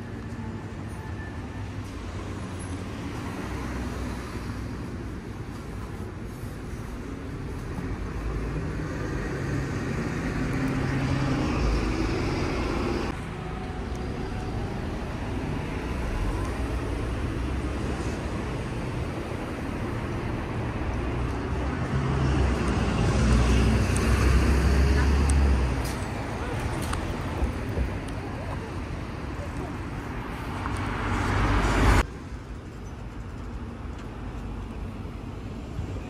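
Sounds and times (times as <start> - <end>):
cars passing: 1.6 - 36.0.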